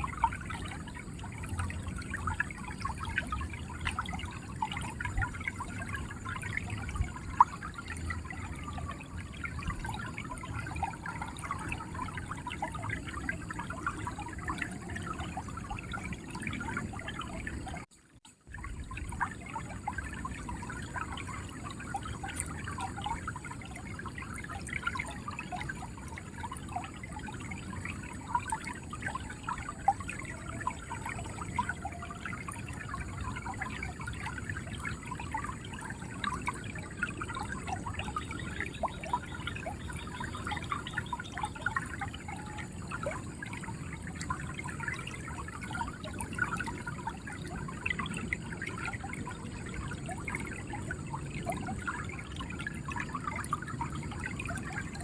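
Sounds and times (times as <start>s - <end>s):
river water flowing and gurgling: 0.0s - 55.0s.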